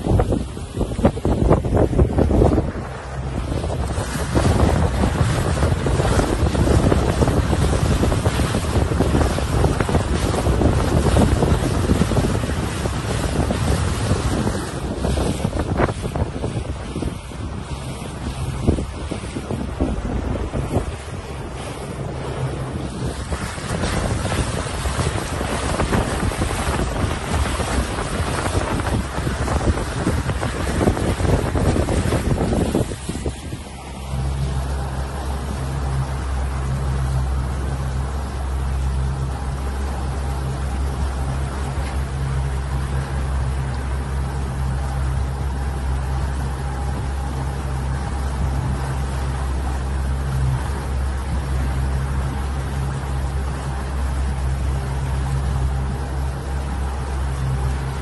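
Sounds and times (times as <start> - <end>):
low engine hum: 0.0 - 58.0
water slapping against boat hull: 0.0 - 58.0
wind buffeting microphone: 0.0 - 58.0.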